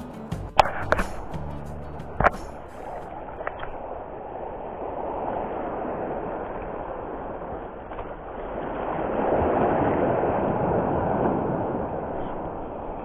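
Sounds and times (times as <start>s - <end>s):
sea surf on shore: 0.0s - 13.0s
wind: 0.0s - 13.0s.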